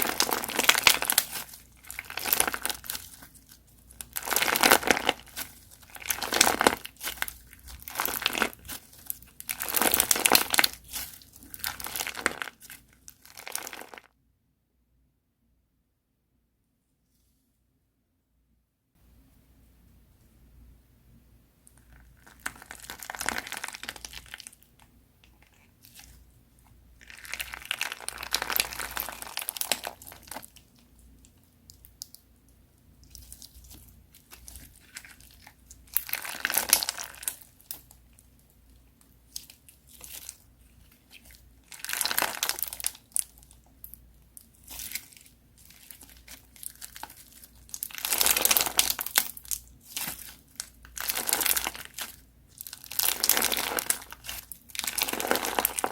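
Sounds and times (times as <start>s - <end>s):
slime crackling and crunching: 0.0s - 14.1s, 21.8s - 32.2s, 32.9s - 55.9s.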